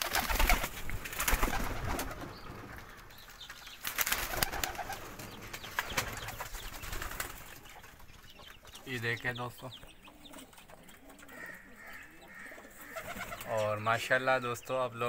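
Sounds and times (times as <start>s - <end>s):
doves cooing: 0.0s - 14.8s.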